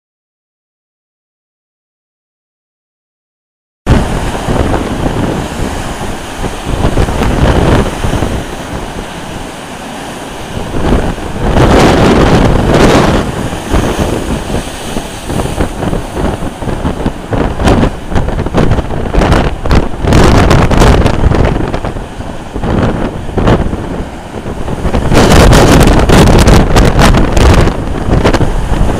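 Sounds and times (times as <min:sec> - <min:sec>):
heavy surf crashing on sea wall: 0:03.9 - 0:28.9
wind buffeting microphone: 0:03.9 - 0:28.9.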